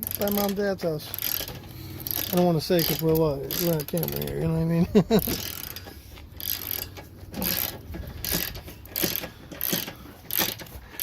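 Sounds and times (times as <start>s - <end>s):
ratchet wrench clicking: 0.0s - 11.0s.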